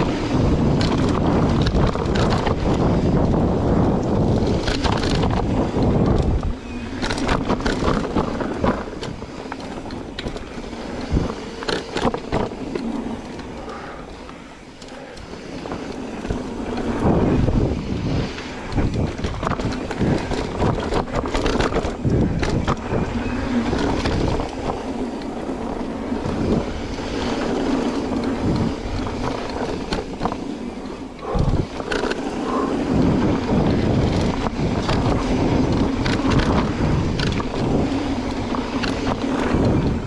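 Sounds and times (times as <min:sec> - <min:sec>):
bike clattering over bumps: 0:00.0 - 0:40.0
bike tyres rolling over dirt: 0:00.0 - 0:40.0
wind buffeting microphone: 0:00.0 - 0:40.0.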